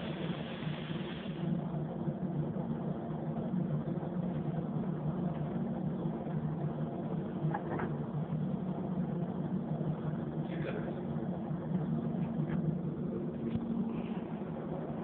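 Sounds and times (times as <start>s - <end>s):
ventilation fans humming: 0.0s - 15.0s.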